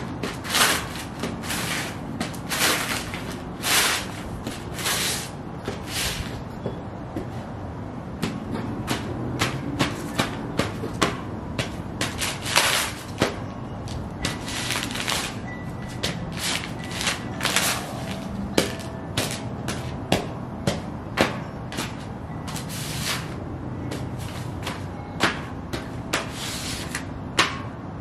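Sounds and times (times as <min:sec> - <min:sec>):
boots scuffing: 0:00.0 - 0:07.5, 0:08.2 - 0:27.0.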